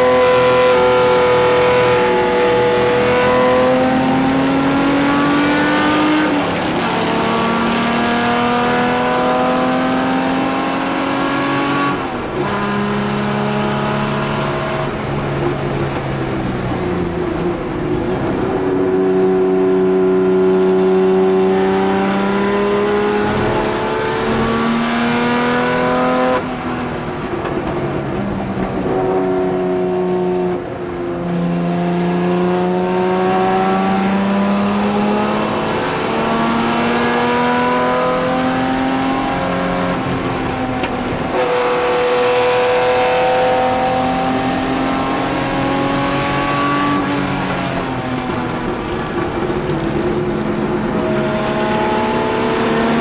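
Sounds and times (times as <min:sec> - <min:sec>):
race car engine accelerating: 0:00.0 - 0:30.7, 0:31.3 - 0:53.0.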